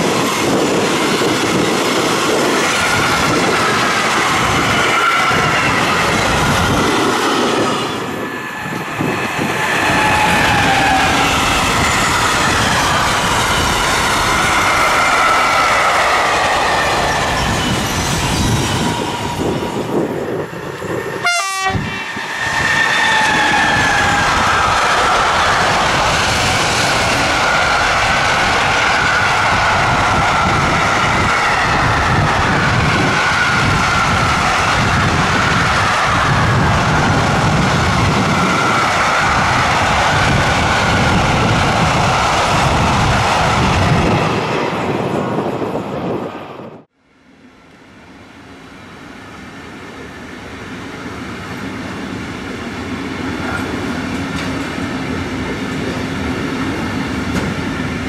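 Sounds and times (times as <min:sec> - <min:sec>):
approaching train rumble: 0:00.0 - 0:58.0
freight train wheels rumbling: 0:00.0 - 0:58.0.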